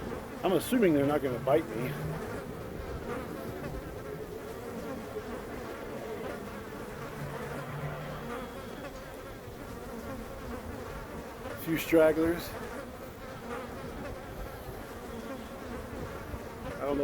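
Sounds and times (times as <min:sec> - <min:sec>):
bee swarm buzzing: 0:00.0 - 0:17.0.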